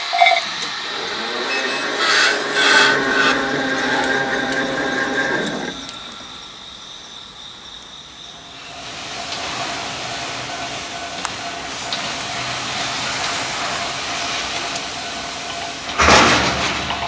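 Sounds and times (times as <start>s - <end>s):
faint hiss: 0.0s - 17.0s
train running with faint whine: 0.0s - 17.0s.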